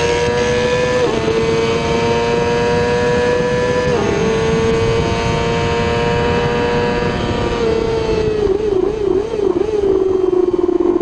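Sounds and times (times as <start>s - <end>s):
heavy wind rush: 0.0s - 11.0s
motorcycle engine at high revs: 0.0s - 11.0s.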